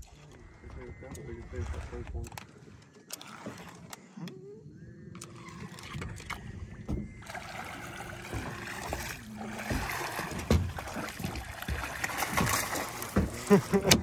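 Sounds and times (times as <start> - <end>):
low hum on a boat: 0.0 - 14.0.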